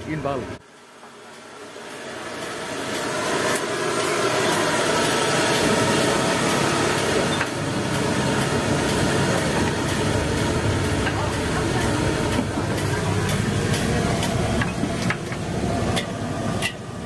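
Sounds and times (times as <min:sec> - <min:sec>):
gas burner roar: 0:00.0 - 0:17.0.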